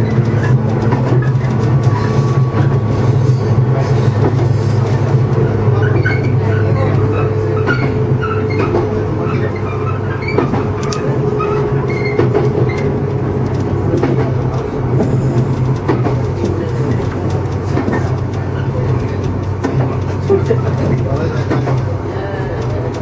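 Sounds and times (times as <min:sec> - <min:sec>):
train hum and rumble: 0:00.0 - 0:23.0
wheels clicking on rails: 0:00.0 - 0:23.0.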